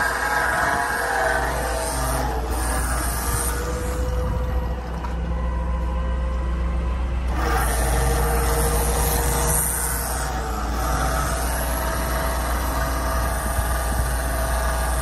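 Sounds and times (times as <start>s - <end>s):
broad rush of noise: 0.0s - 15.0s
steady whine: 0.0s - 15.0s
truck engine idling: 0.0s - 15.0s.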